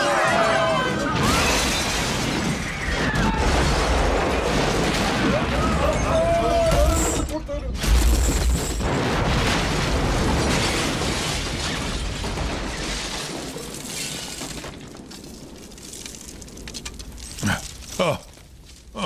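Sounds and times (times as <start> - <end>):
falling debris: 0.0 - 19.0.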